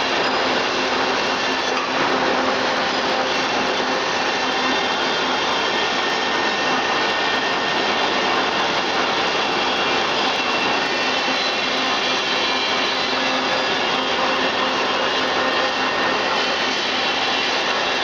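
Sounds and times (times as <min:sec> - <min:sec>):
rice processing machine whirring: 0:00.0 - 0:18.0.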